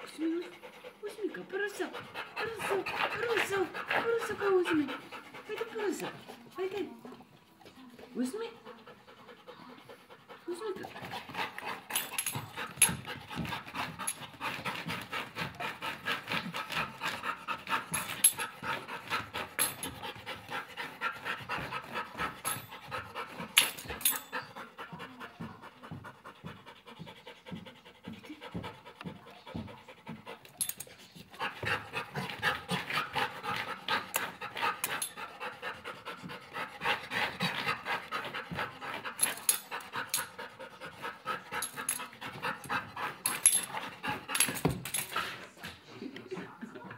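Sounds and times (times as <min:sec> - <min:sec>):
dog panting: 0:00.0 - 0:46.9.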